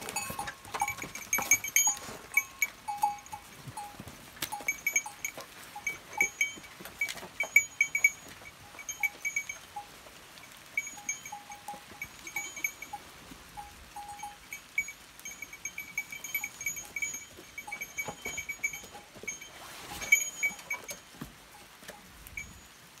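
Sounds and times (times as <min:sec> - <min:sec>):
rustling: 0:00.0 - 0:22.8
goat bells clinking: 0:00.0 - 0:23.0.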